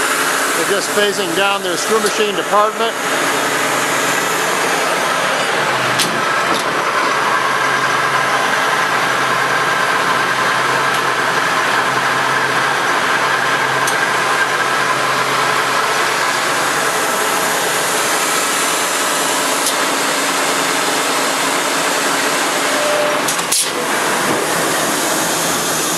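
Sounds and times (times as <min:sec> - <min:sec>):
machine mechanical drone: 0:00.0 - 0:25.9.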